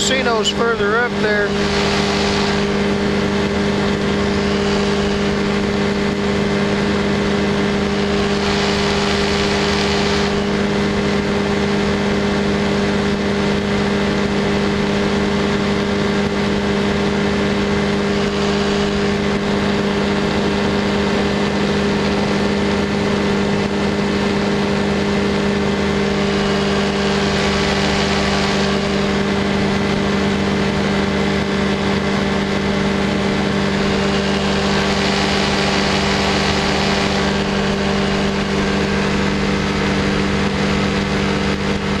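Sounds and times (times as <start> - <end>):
light aircraft engine running: 0.0 - 42.0
rushing airflow: 0.0 - 42.0.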